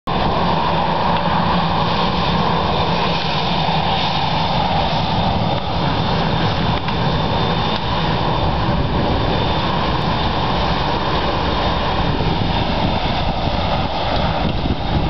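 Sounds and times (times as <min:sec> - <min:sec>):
jet engines rumbling with whine: 0:00.1 - 0:15.0.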